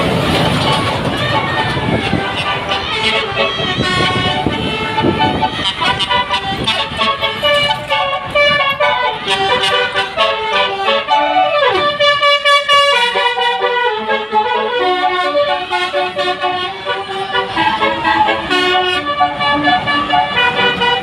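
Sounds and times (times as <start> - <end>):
multi-tone bus horn melody: 0.0 - 21.0.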